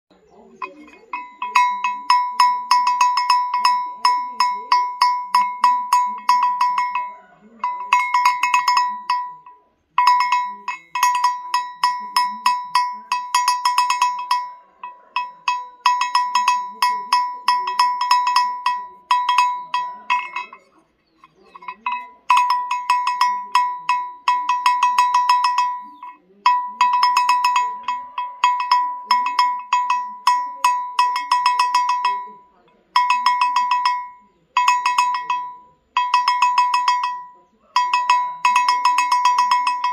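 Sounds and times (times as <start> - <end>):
metal bell clanking: 0.4 - 39.9.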